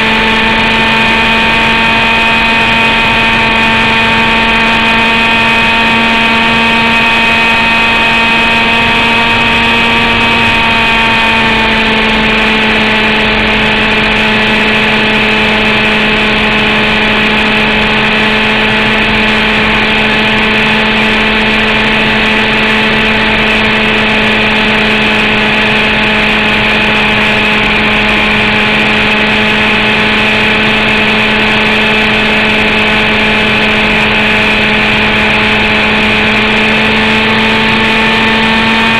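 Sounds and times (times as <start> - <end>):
two-stroke helicopter engine running: 0.0 - 38.9.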